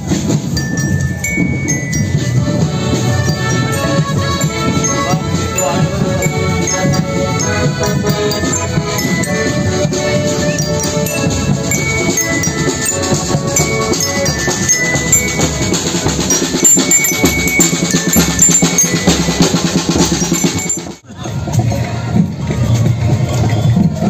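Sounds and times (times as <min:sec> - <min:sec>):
snare and bass drums: 0:00.0 - 0:24.0
accordion band playing: 0:00.1 - 0:21.0.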